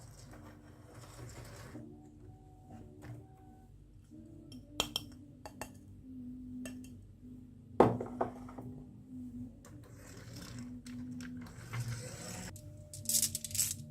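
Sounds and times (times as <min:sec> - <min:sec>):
faint hum: 0:01.7 - 0:13.9.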